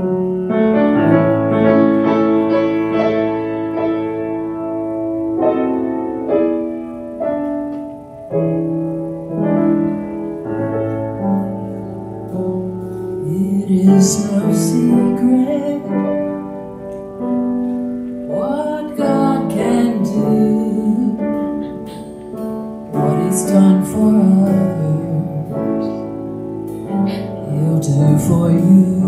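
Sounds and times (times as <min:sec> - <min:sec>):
grand piano chords: 0:00.0 - 0:29.0.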